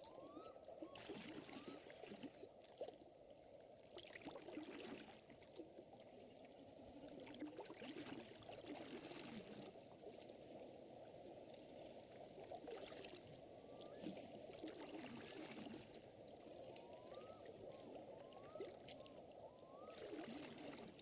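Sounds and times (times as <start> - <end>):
lake water lapping and trickling: 0.0 - 21.0.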